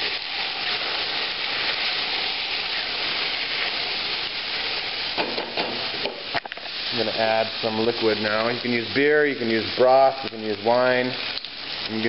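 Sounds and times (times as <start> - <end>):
onions and meat sizzling: 0.0 - 12.0.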